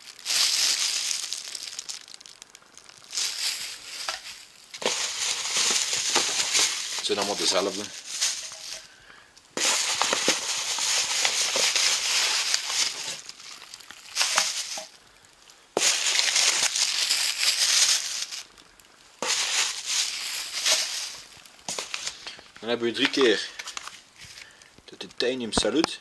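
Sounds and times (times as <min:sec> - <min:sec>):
plastic bags crinkling: 0:00.0 - 0:25.0.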